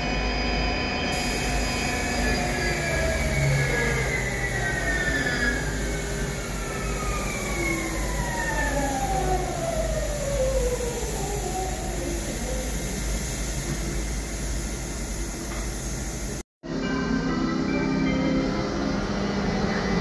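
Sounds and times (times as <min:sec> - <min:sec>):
electric locomotive drive whining: 0:00.0 - 0:20.0.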